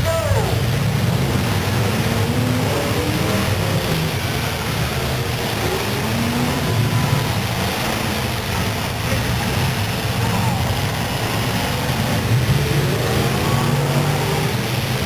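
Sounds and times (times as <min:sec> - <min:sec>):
car engines running and revving: 0:00.0 - 0:15.0.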